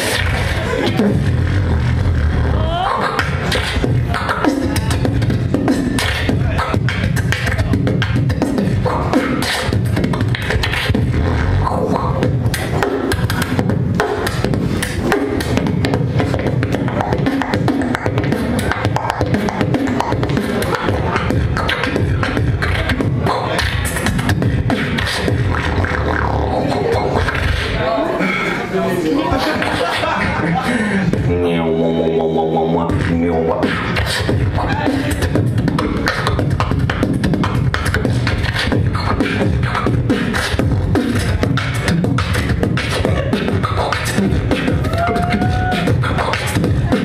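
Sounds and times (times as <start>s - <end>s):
person beatboxing: 0.0s - 28.7s, 29.4s - 47.0s.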